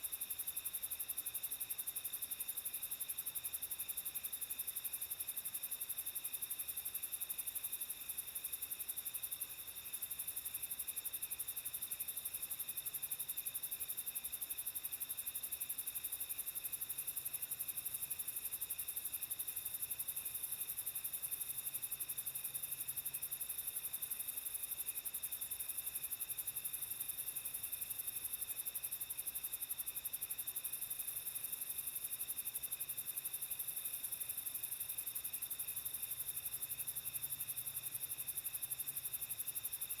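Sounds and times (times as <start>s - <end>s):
high insect hiss: 0.0s - 40.0s.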